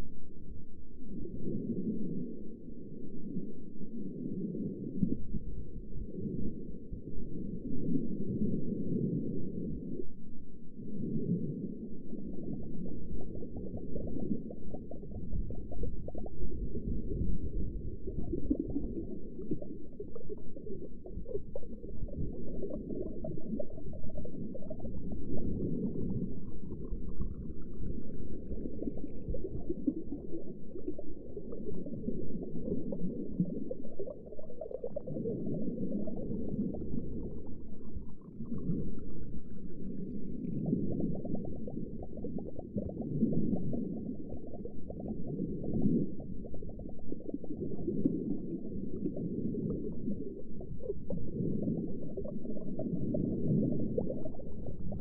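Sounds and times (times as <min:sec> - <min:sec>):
underwater rumbling and gurgling: 0:00.0 - 0:55.0.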